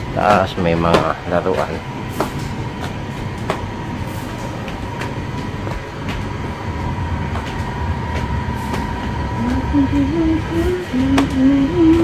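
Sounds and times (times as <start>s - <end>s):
escalator rumble: 0.0s - 12.0s
faint steady whine: 0.0s - 12.0s.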